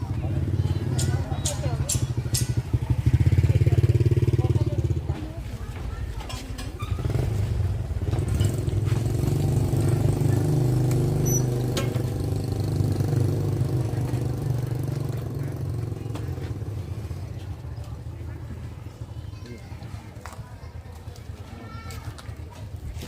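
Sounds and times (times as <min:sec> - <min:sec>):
motorcycle engine running: 0:00.0 - 0:06.2, 0:06.8 - 0:21.4.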